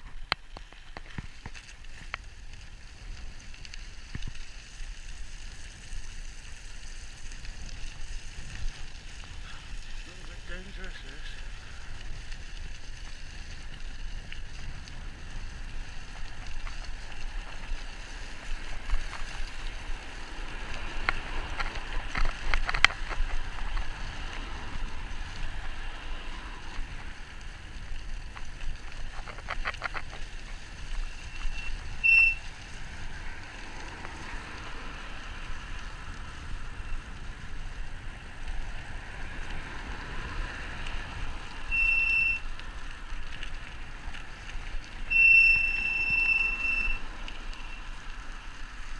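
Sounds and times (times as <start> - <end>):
e-bike rolling: 0.0 - 48.9.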